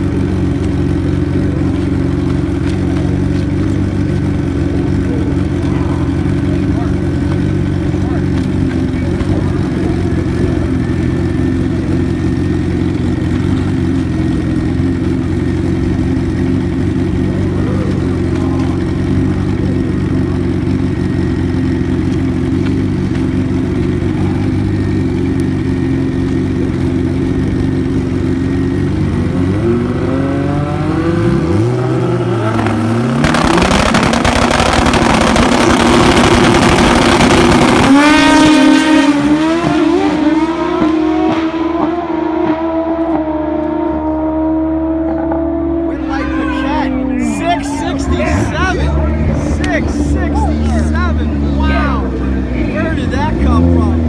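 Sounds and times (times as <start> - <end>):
motorcycle engines idling and revving: 0.0 - 54.0.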